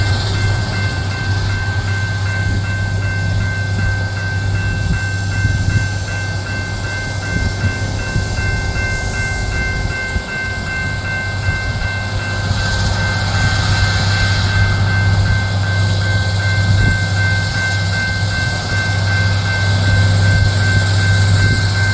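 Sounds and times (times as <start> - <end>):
high machine whine: 0.0 - 21.9
hissing rush: 0.0 - 21.9
low engine drone: 0.0 - 21.9.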